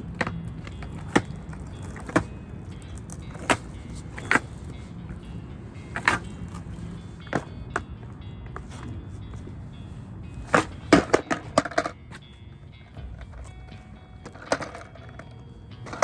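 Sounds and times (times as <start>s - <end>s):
skateboard clacks: 0.0s - 5.3s, 5.9s - 9.0s, 10.4s - 12.2s, 12.9s - 16.0s
skateboard rolling over pavement: 0.0s - 9.7s, 10.3s - 16.0s.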